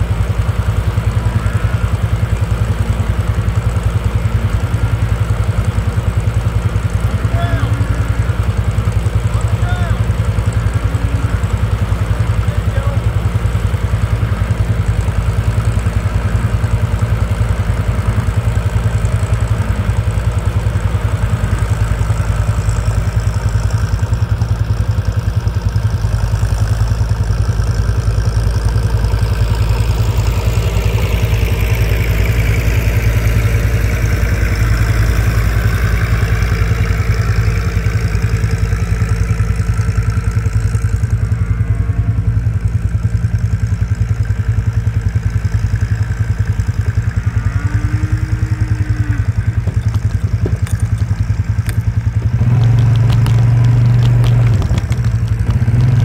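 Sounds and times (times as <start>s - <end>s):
tractor engine chugging: 0.0s - 56.0s.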